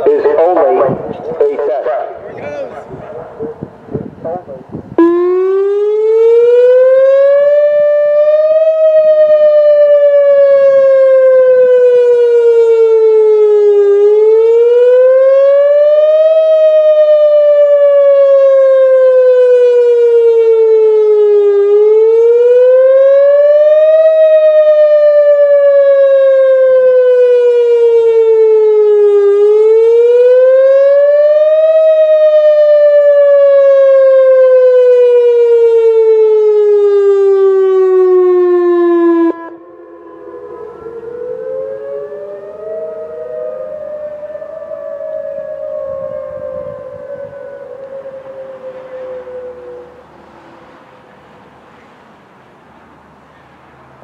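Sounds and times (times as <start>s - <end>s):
warning siren wailing: 0.0s - 51.8s.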